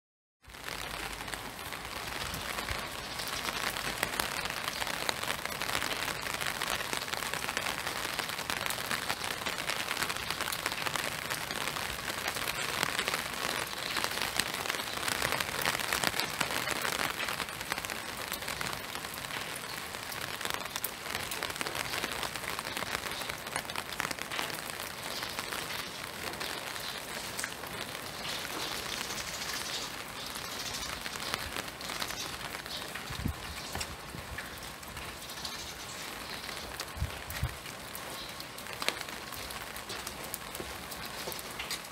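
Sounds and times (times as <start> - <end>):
steady rain falling: 0.4 - 41.9.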